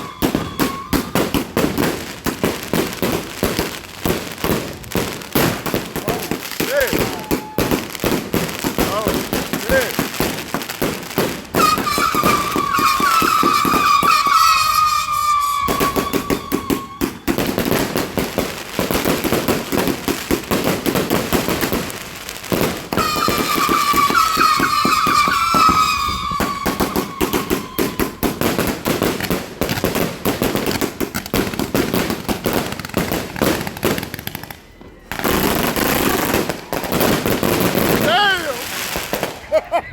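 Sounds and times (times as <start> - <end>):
falling firework whistles: 0.0 - 3.6, 5.4 - 8.3, 11.5 - 39.9
fireworks crackling pops: 0.0 - 39.5.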